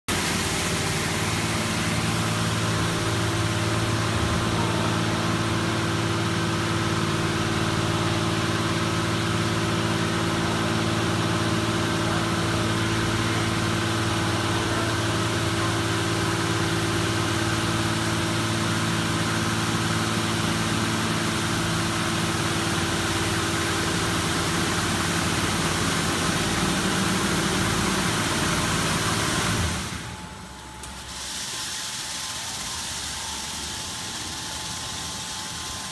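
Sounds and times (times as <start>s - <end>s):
car wash machine hum: 0.0s - 35.9s.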